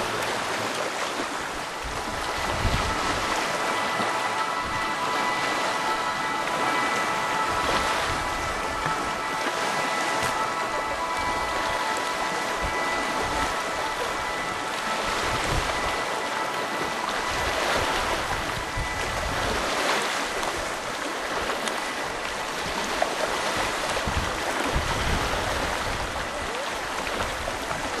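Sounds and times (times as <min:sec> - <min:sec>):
waves washing against rocks: 0:00.0 - 0:28.0
wind buffeting microphone: 0:00.0 - 0:28.0.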